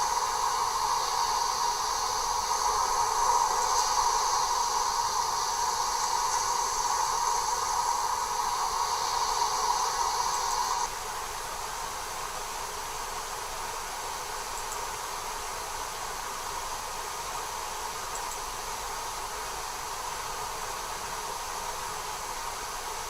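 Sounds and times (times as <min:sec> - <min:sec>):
steady hissing drone: 0:00.0 - 0:23.0.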